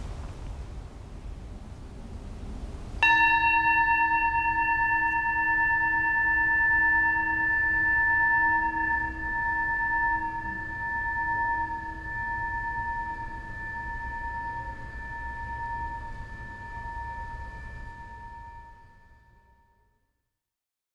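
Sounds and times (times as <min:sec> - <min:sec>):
meditation bell ringing: 0:03.0 - 0:19.8.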